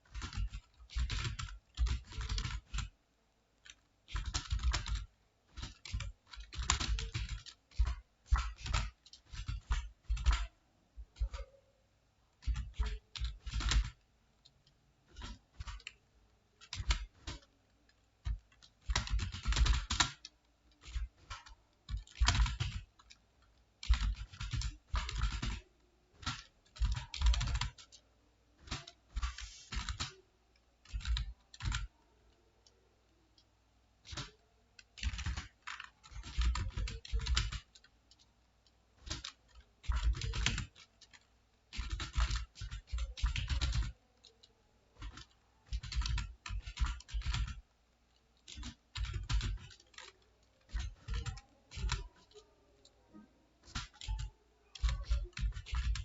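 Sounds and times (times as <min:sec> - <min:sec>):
computer keyboard typing: 0:00.0 - 0:03.0, 0:03.6 - 0:11.7, 0:12.3 - 0:56.0.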